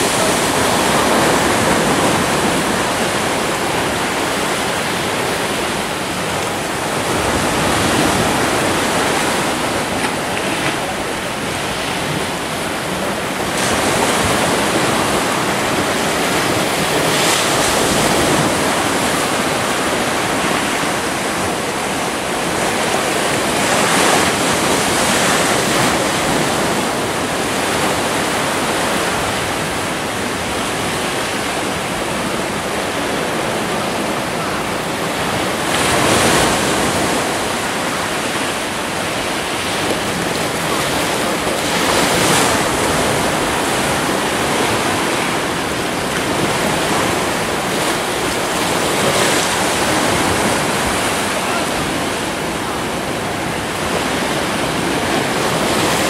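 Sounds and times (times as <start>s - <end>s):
sea waves breaking on rocks: 0.0s - 56.0s.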